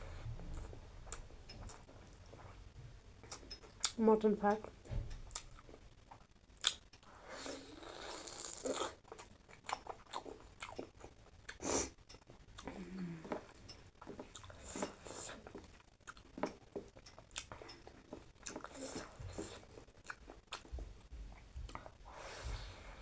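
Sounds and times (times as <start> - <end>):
person chewing food: 0.0 - 4.0, 4.6 - 23.0.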